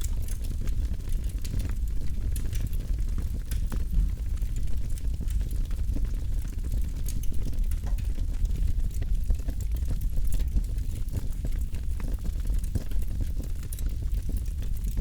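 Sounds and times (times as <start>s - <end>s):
crackles and pops of burning wood: 0.0s - 15.0s.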